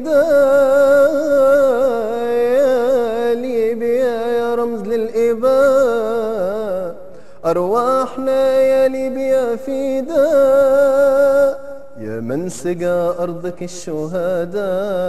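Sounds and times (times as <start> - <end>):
man singing melisma: 0.0 - 15.0.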